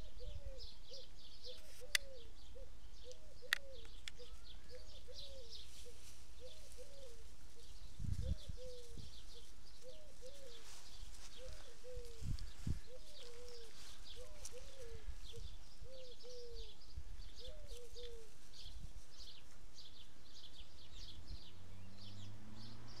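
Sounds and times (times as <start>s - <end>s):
high bird chirping: 0.0s - 18.8s
low bird call: 0.0s - 20.0s.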